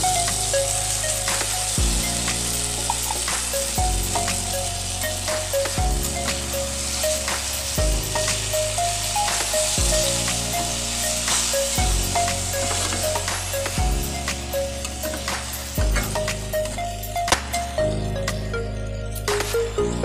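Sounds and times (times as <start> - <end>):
food sizzling in a pan: 0.0 - 17.2
background music with bass: 0.0 - 20.0.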